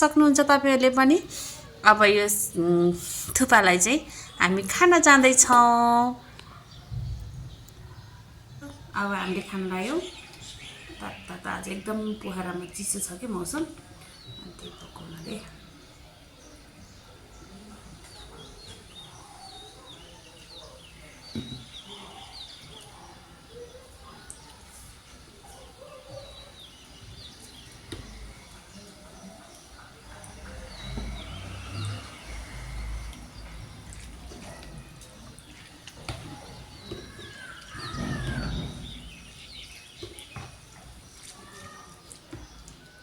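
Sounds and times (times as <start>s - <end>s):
bird chirping: 1.0s - 43.0s.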